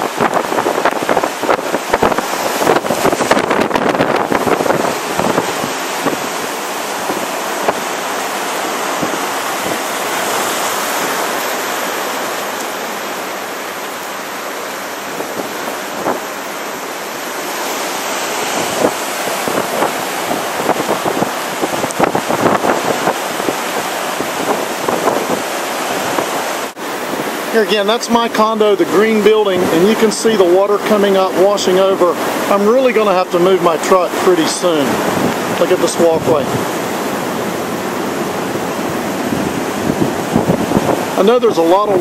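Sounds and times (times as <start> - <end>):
wind buffeting microphone: 0.0 - 32.6, 33.7 - 42.0
heavy surf breaking: 0.0 - 42.0.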